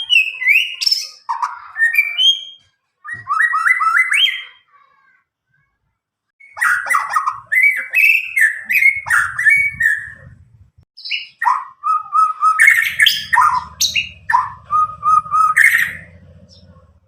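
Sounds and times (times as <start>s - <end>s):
bird whistles: 0.0s - 4.6s, 6.4s - 10.2s, 11.0s - 16.6s
bird singing: 0.0s - 4.7s, 6.4s - 10.2s, 11.0s - 17.0s.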